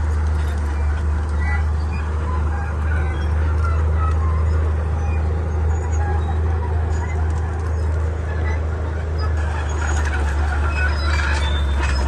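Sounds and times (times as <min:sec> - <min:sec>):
bulldozer diesel engine drone: 0:00.0 - 0:12.0.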